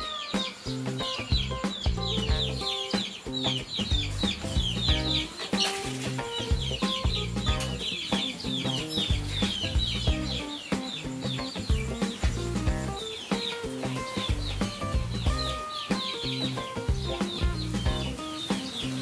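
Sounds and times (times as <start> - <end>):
background music with low notes: 0.0 - 19.0
birds chirping: 0.0 - 19.0.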